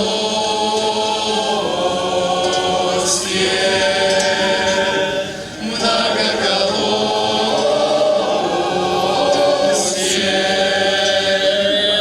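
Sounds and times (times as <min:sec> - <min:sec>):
choir singing long chords: 0:00.0 - 0:12.0.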